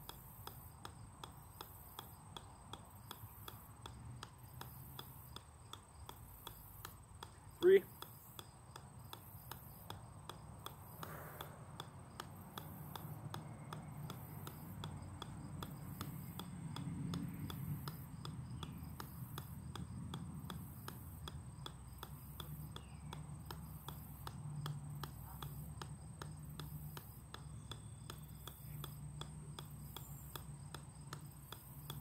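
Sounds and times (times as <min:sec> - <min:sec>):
golf ball bouncing on steel: 0:00.0 - 0:32.0.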